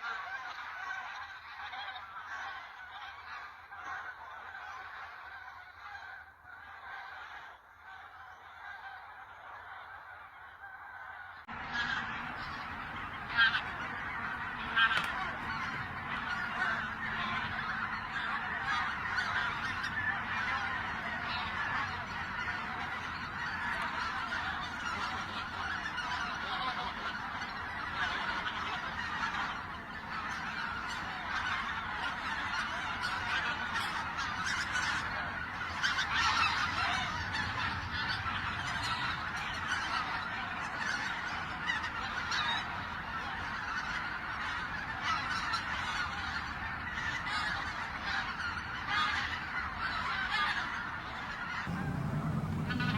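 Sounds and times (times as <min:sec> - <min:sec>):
geese honking: 0:00.0 - 0:52.9.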